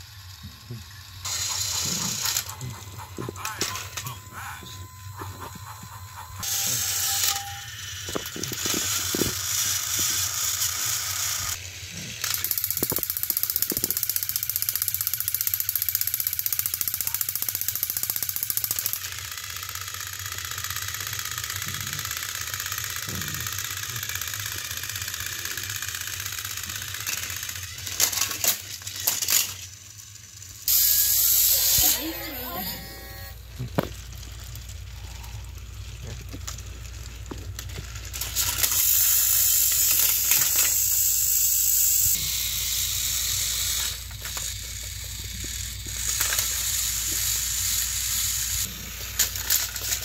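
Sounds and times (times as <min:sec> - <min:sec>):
toy engine clattering off track: 0:00.0 - 0:50.0
toy engines whirring and rattling: 0:00.0 - 0:50.0.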